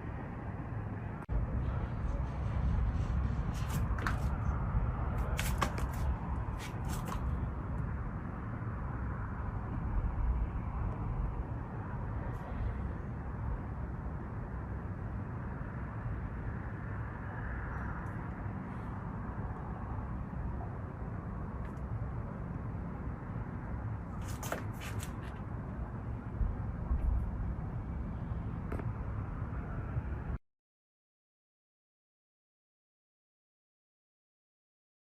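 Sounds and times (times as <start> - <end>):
low outdoor rumble: 0.0 - 30.4.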